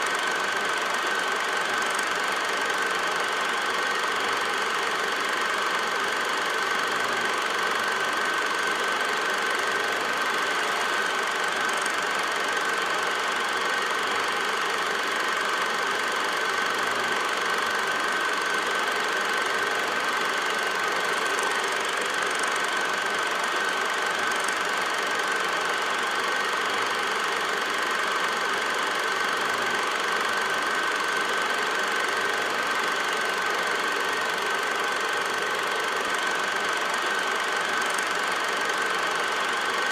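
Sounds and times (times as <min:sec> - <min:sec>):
film projector running with whine: 0:00.0 - 0:39.9.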